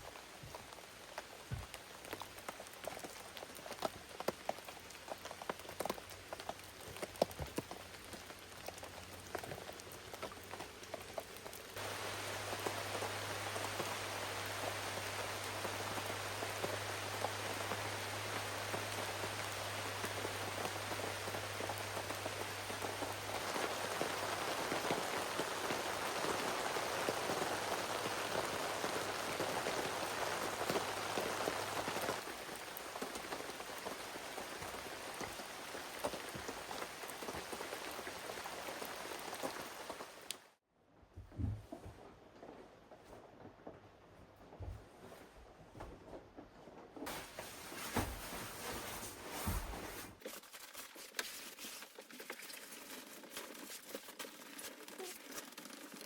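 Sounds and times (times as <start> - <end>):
rain falling: 0.0 - 40.6, 47.0 - 50.2, 52.8 - 56.0.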